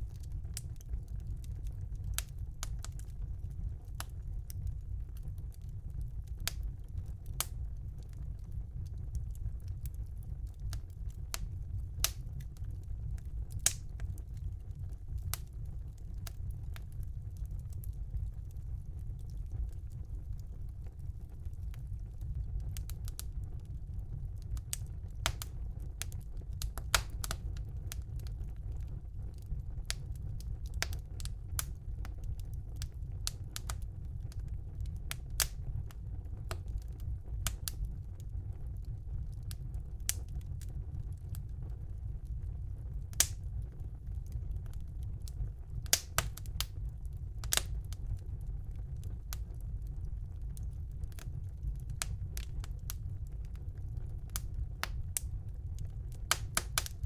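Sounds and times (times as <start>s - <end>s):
fire low rumble: 0.0s - 57.0s
wood fire crackling and popping: 0.0s - 57.0s.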